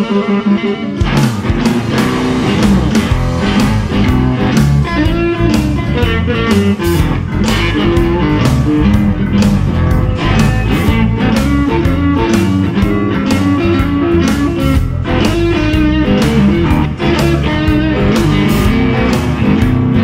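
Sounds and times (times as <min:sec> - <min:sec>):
electric guitar rock riff: 0:00.0 - 0:20.0
backing track beat: 0:00.5 - 0:20.0
bass line: 0:00.8 - 0:20.0.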